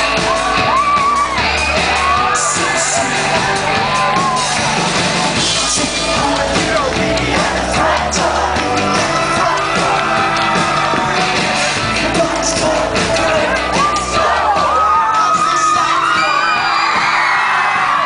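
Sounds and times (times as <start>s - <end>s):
crowd yelling and whooping: 0.0s - 18.0s
live pop-rock band: 0.0s - 18.0s
person singing: 1.8s - 4.5s, 5.4s - 18.0s.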